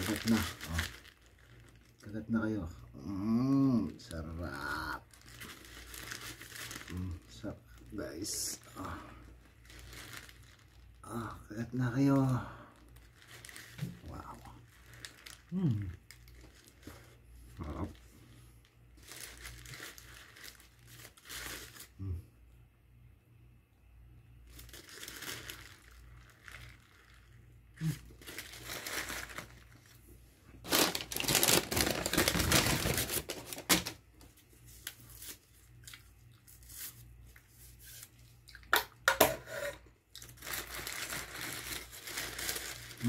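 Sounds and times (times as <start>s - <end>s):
paper wrapper crinkling and tearing: 0.0s - 2.6s, 3.3s - 22.1s, 24.4s - 38.8s, 40.1s - 43.0s.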